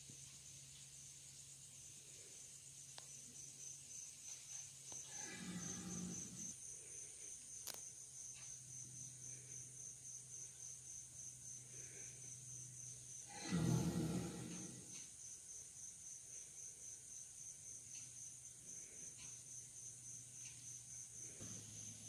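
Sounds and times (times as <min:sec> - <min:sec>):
crickets chirping: 0:00.0 - 0:22.0
faint low hum: 0:00.0 - 0:22.0.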